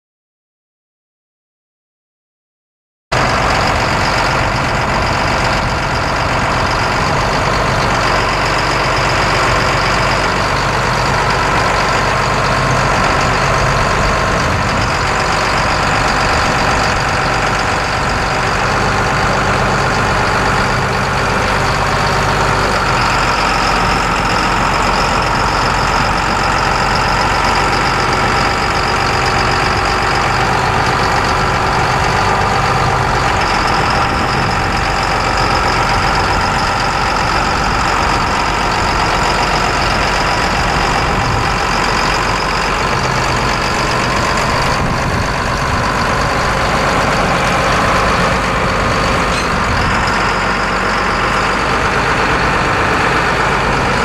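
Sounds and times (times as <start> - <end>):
tractor diesel engine running: 3.1 - 54.0.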